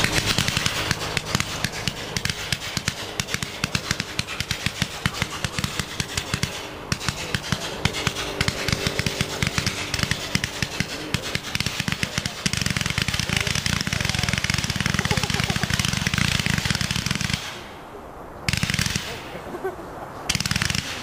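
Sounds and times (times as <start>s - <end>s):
firework cake popping: 0.0s - 17.5s.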